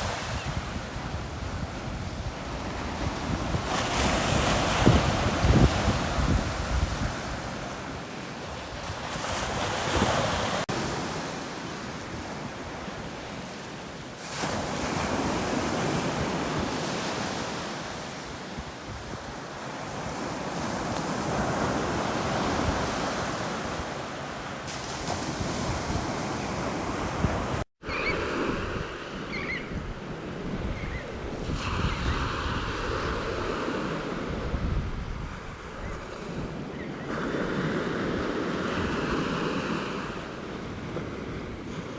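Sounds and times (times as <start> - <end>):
sea waves breaking on beach: 0.0 - 29.3, 35.3 - 41.9.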